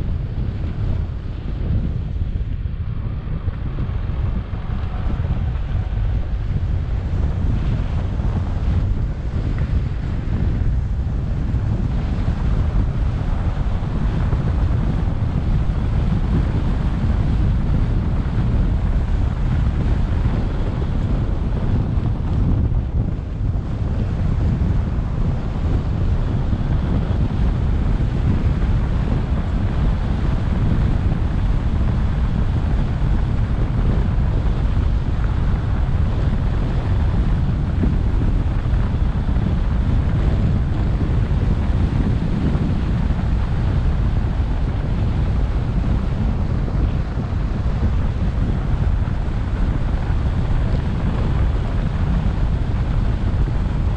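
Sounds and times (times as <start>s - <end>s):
road noise: 0.0s - 53.9s
wind buffeting microphone: 0.0s - 53.9s.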